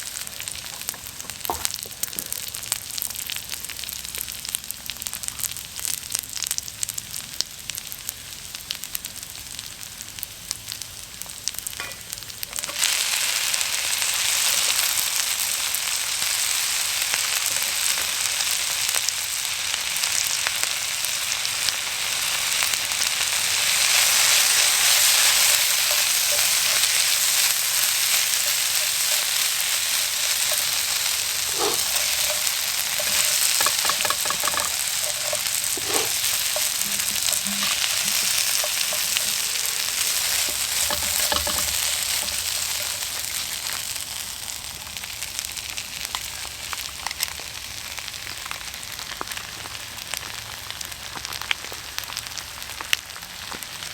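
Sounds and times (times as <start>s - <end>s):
stir-fry sizzling in a pan: 0.0s - 53.9s.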